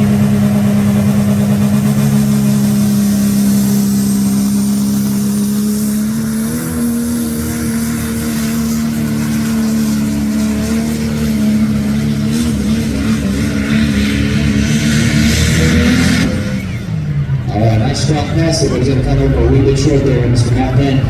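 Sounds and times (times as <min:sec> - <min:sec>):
truck engine running at high revs: 0:00.0 - 0:21.0.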